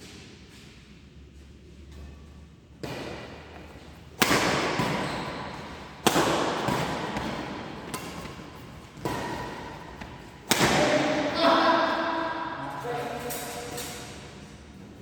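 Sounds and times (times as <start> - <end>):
echoing thuds in large hall: 2.7 - 15.0.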